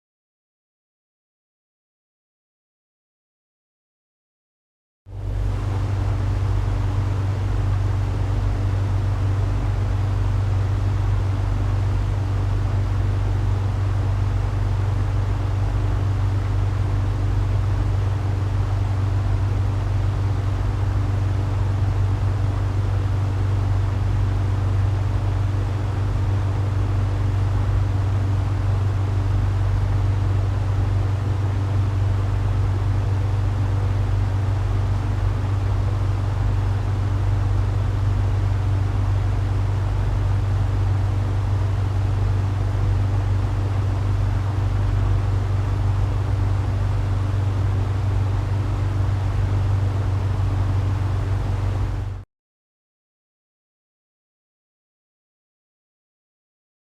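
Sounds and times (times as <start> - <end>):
propeller airplane engine droning: 5.1 - 52.2.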